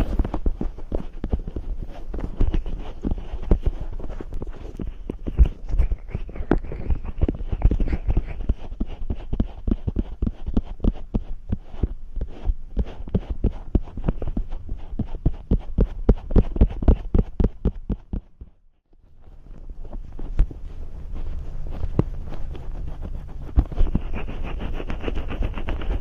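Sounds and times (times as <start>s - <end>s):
fingers rubbing a microphone: 0.0s - 26.0s.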